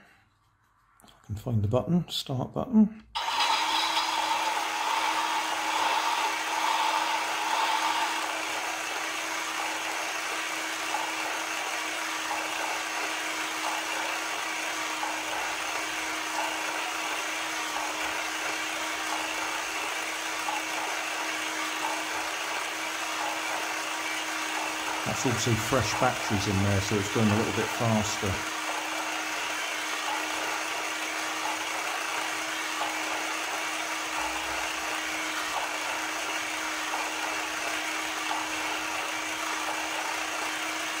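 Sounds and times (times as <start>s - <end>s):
model engine motor whirring: 3.2s - 41.0s.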